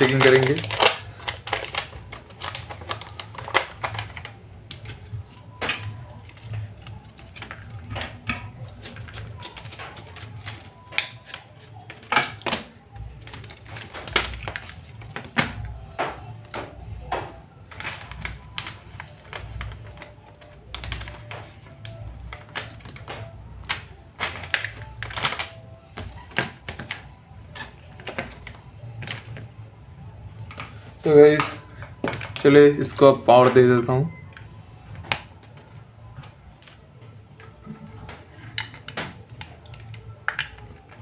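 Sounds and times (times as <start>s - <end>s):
circuit boards clicking and knocking: 0.0s - 41.0s.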